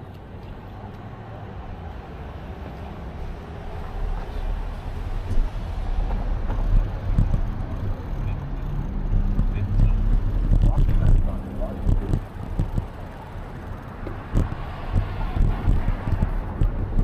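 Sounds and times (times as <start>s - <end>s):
wind buffeting microphone: 1.5s - 17.0s.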